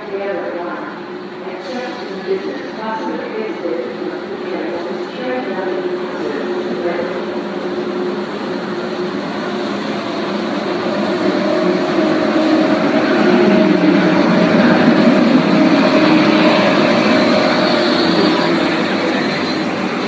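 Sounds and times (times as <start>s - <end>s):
electric train hum: 0.0s - 20.0s
train rumble: 0.0s - 20.0s.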